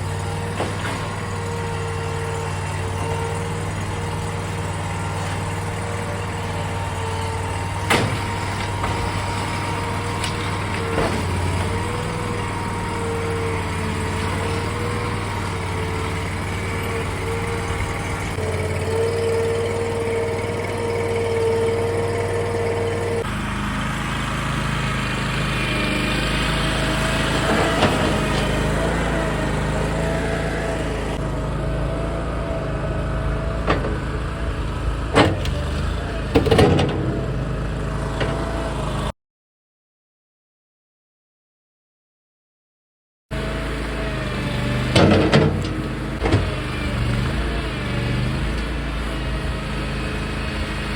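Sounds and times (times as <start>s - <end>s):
loader engine humming with whine: 0.0s - 39.1s, 43.3s - 50.9s.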